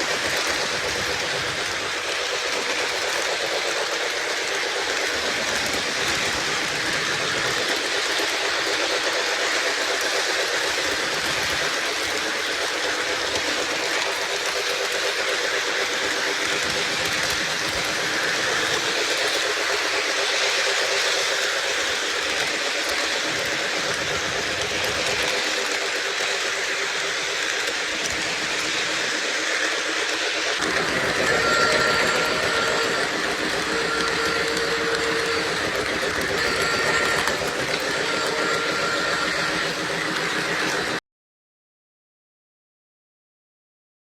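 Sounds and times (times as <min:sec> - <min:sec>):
model train wheels clattering on rails: 0:00.0 - 0:41.0.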